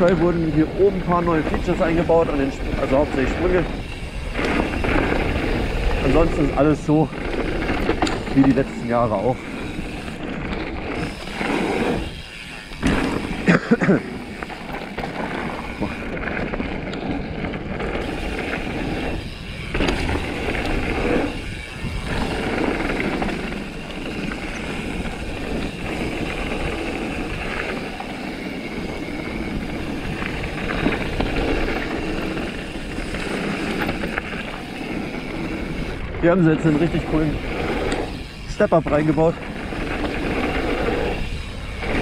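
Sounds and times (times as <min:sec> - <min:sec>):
bike clicks and rattles: 0:00.0 - 0:42.0.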